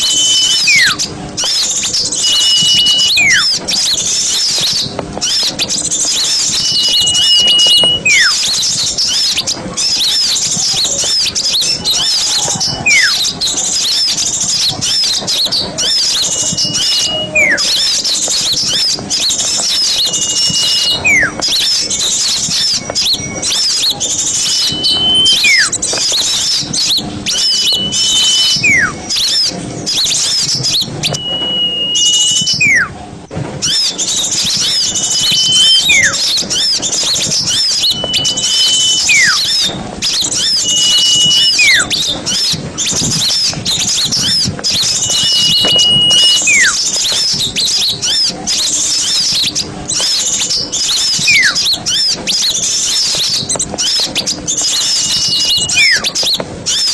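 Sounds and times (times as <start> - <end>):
small birds chirping: 0.0 - 33.0, 33.6 - 56.9
whistled call sliding down: 0.0 - 33.0, 33.6 - 56.9.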